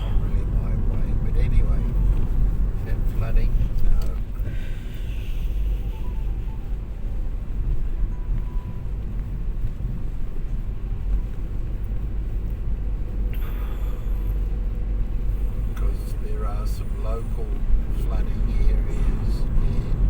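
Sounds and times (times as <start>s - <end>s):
car road rumble from inside cabin: 0.0s - 20.0s.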